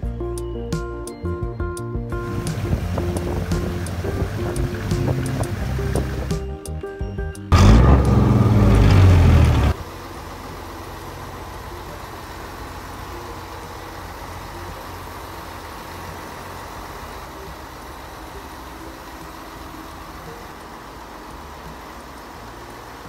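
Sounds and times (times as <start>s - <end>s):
boat engine running: 2.2s - 6.5s, 7.5s - 23.0s.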